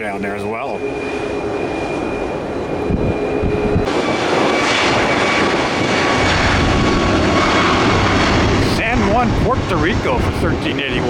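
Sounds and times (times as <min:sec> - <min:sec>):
jet engines rushing and whining: 0:00.0 - 0:11.0
wind buffeting microphone: 0:00.0 - 0:11.0.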